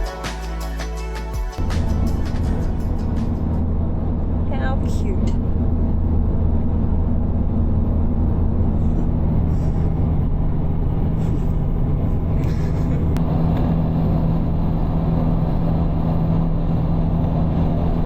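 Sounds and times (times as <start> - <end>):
road noise: 0.0 - 18.0
vehicle engine droning: 0.0 - 18.0.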